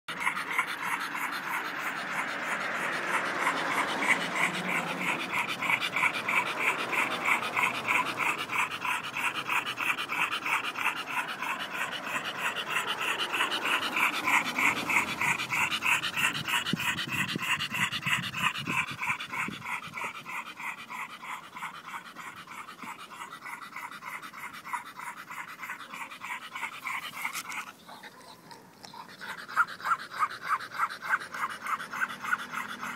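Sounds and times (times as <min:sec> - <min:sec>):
dog panting: 0:00.1 - 0:32.9.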